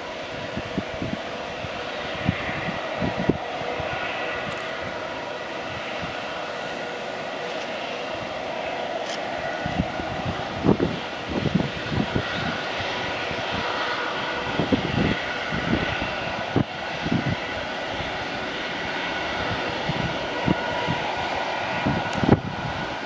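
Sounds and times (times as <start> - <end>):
jet engines droning: 0.0 - 23.0.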